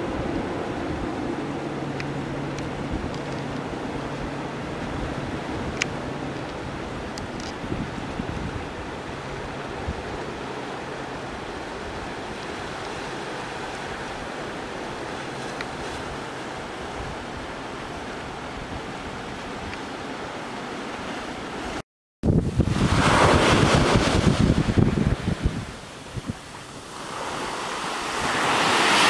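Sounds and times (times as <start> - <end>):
sea surf: 0.0 - 29.0
wind: 0.0 - 29.0.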